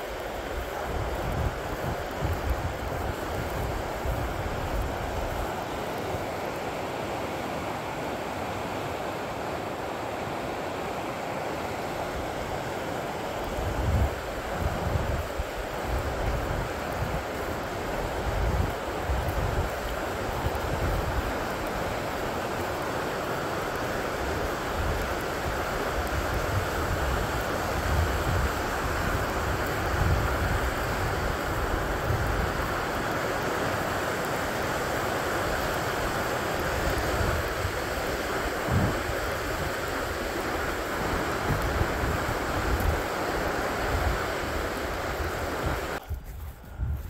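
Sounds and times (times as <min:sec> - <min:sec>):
river rushing: 0:00.0 - 0:46.0.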